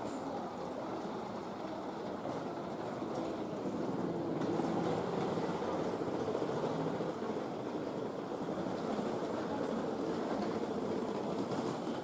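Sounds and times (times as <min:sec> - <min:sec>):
rail noise: 0:00.0 - 0:12.0.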